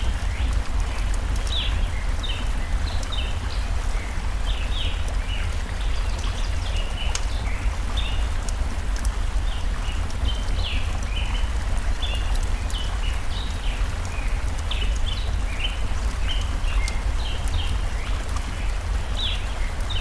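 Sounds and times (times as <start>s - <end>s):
campfire crackling: 0.0s - 20.0s
rushing stream water: 0.0s - 20.0s.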